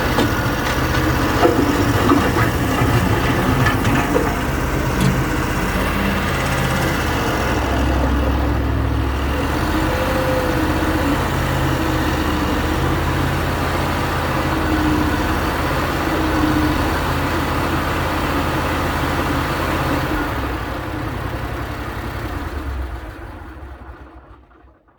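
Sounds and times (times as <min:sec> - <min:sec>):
loader engine running: 0:00.0 - 0:24.9.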